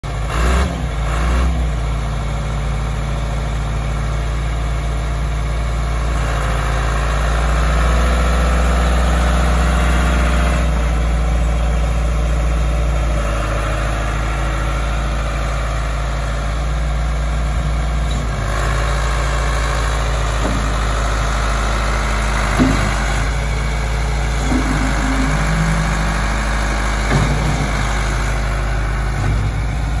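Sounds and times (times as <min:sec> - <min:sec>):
backhoe diesel engine running: 0:00.0 - 0:30.0.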